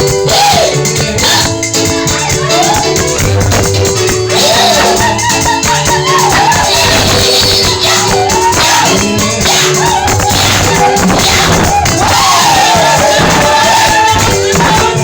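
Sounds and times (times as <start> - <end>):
keyboard chords: 0.0 - 15.0
shaker and rattle percussion: 0.0 - 15.0
person singing: 0.2 - 15.0.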